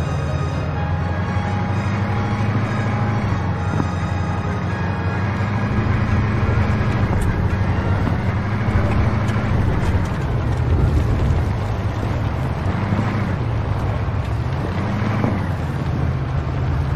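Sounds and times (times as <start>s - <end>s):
diesel engine rumbling: 0.0s - 16.9s.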